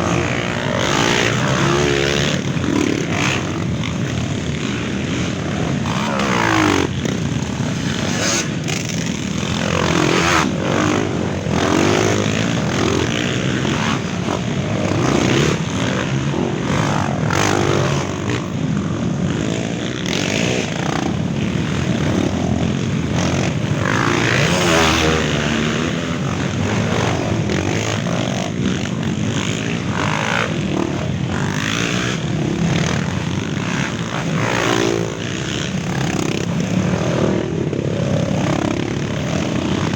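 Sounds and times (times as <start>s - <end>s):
motorcycles revving and passing: 0.0s - 39.9s.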